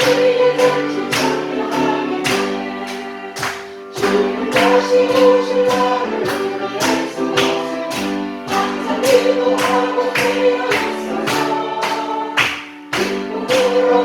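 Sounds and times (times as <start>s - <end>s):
choir singing a hymn: 0.0s - 14.0s
instrumental accompaniment: 0.0s - 14.0s.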